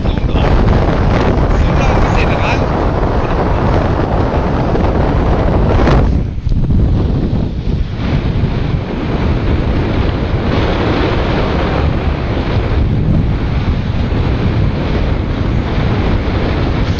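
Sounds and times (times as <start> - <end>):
sea waves rushing: 0.0 - 16.9
wind buffeting microphone: 0.0 - 16.9.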